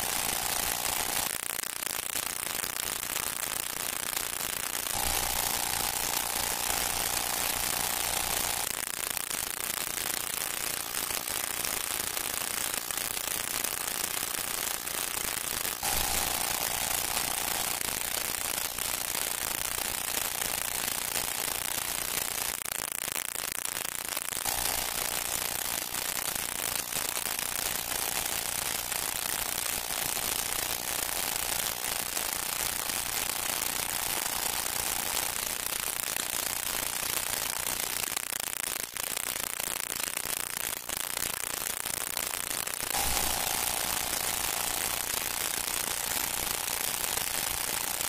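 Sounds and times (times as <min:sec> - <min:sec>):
film soundtrack hiss and crackle: 0:00.0 - 0:48.0.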